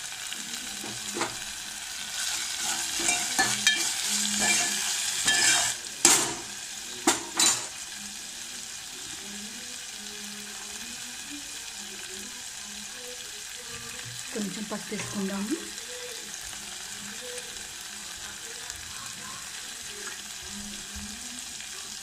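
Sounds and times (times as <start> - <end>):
spices sizzling in oil: 0.0 - 22.0.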